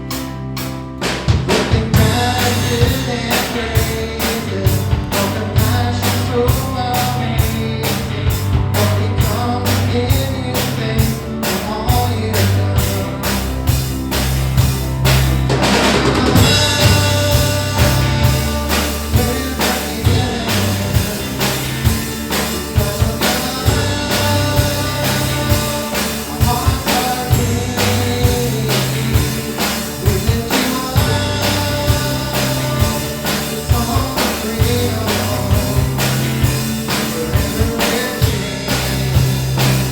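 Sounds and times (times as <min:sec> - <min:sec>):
bass guitar: 0:00.0 - 0:39.9
drum kit: 0:00.0 - 0:39.9
voices singing: 0:01.4 - 0:39.9.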